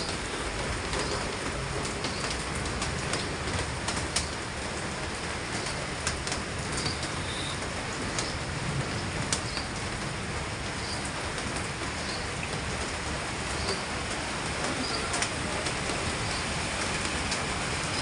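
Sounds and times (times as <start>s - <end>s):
heavy rain on standing water: 0.0s - 18.0s.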